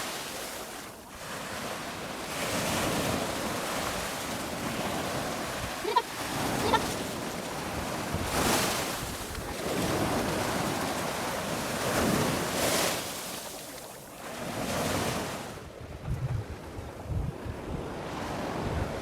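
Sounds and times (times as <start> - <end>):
sea waves washing onto beach: 0.0 - 19.0.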